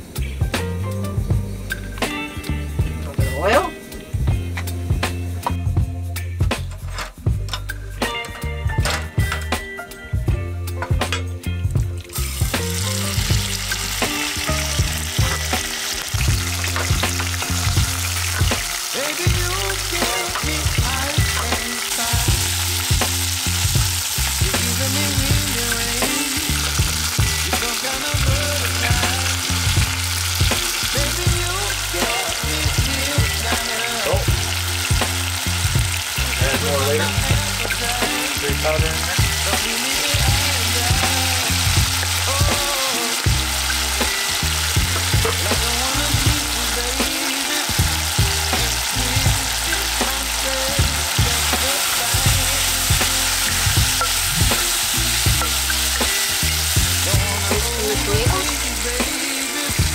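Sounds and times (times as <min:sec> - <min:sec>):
background music with bass line: 0:00.0 - 0:59.9
chicken sizzling in a pot: 0:11.1 - 0:59.9.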